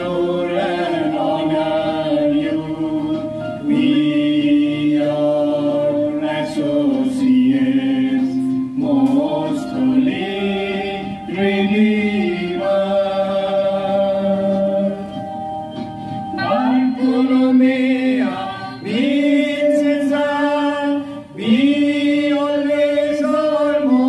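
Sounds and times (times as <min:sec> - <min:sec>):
electronic keyboard: 0:00.0 - 0:24.0
group singing a hymn: 0:00.0 - 0:24.0.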